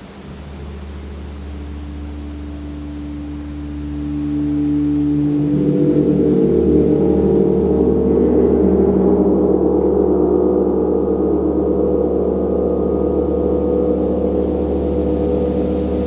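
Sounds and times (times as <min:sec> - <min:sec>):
large gong ringing: 0:00.0 - 0:16.0.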